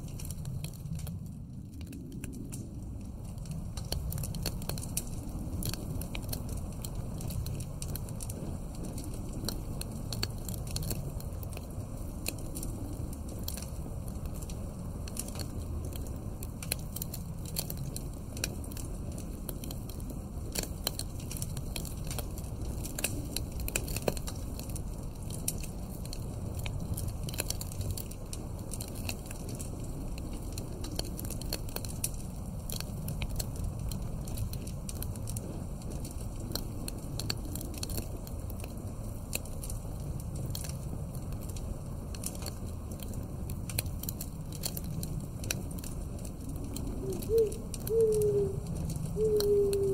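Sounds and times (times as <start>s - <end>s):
fire pops and snaps: 0.0s - 49.9s
low rumble of wind: 0.0s - 49.9s
wood fire crackling: 0.0s - 49.9s.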